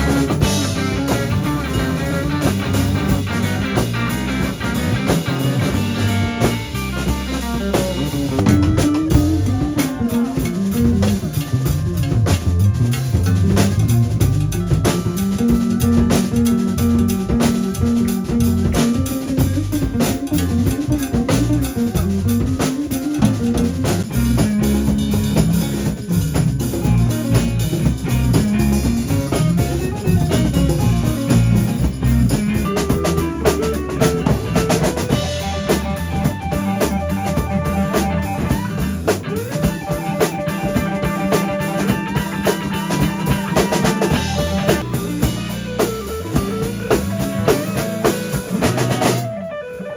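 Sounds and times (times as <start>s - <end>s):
drum kit beat: 0.0s - 49.9s
electric guitar: 0.0s - 49.9s
walking bass line: 0.0s - 49.9s.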